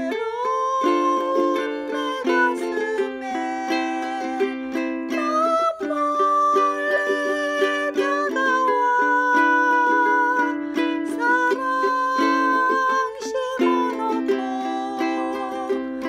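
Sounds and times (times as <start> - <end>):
ukulele strummed: 0.0 - 16.0.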